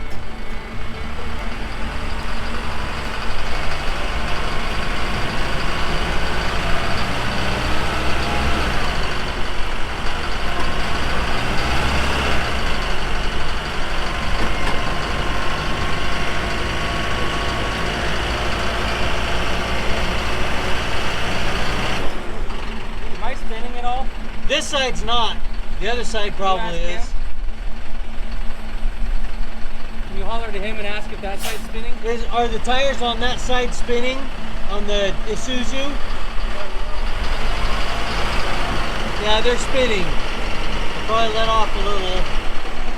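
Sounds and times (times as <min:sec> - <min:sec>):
truck engines under load: 0:00.0 - 0:42.9.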